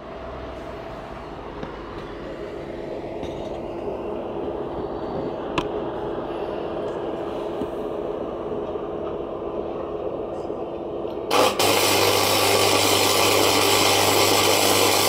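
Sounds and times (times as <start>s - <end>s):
welder fan and transformer hum: 0.0s - 15.0s.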